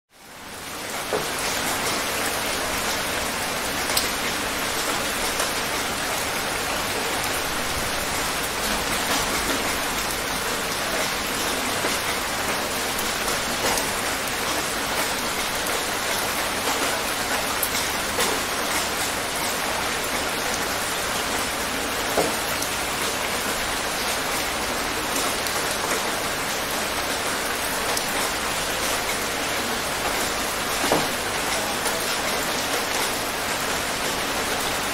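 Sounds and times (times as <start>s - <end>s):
light rain falling: 0.1s - 34.9s.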